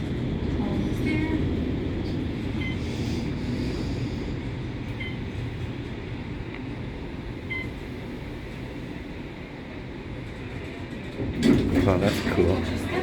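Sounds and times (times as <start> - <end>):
elevator rumble and air rush: 0.0 - 13.0.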